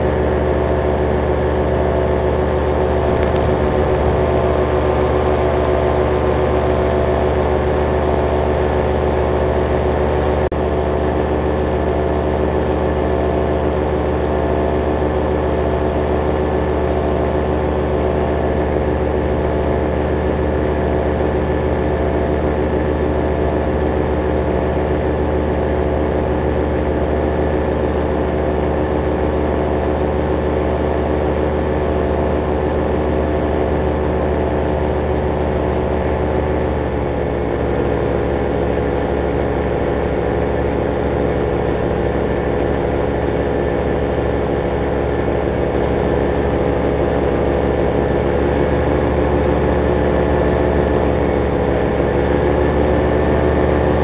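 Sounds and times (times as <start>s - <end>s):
paramotor engine drone: 0.0s - 54.0s.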